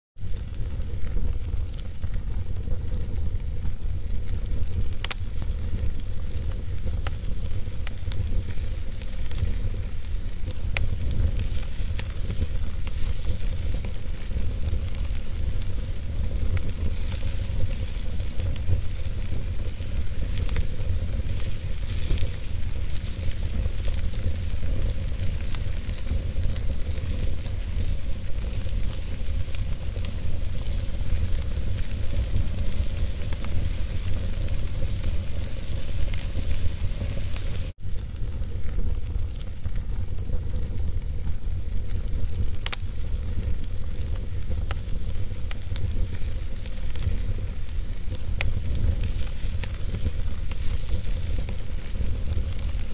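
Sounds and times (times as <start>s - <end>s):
fire crackling and popping: 0.2s - 52.9s
wood fire rumbling and hissing: 0.2s - 52.9s.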